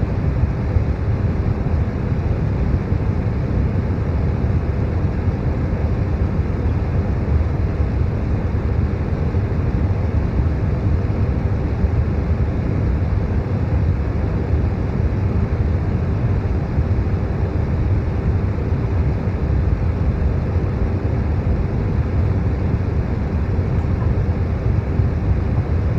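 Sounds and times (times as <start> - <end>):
electric fan with brown noise: 0.0 - 25.9
faint constant hum: 0.0 - 25.9.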